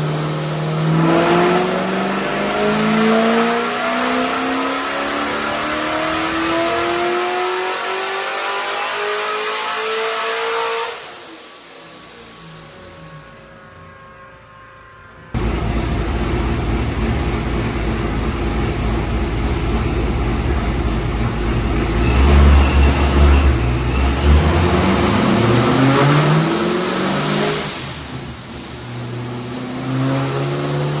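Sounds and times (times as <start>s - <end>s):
car engine accelerating hard: 0.0s - 14.1s, 15.3s - 31.0s.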